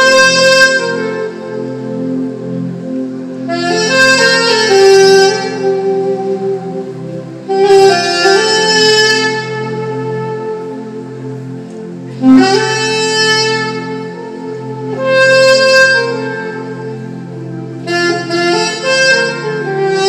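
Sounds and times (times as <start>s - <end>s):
saxophone slow melody: 0.0s - 20.0s.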